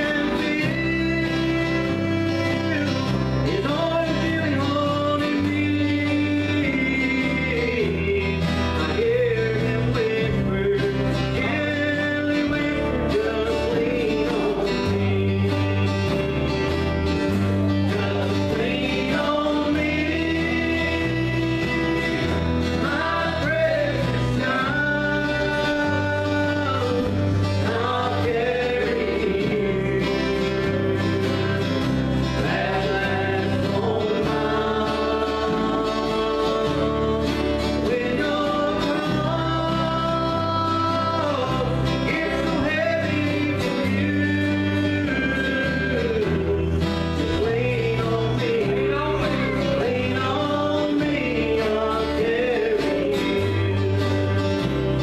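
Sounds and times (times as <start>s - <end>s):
bass line: 0.0s - 55.0s
person singing: 0.0s - 55.0s
strummed acoustic guitars: 0.0s - 55.0s.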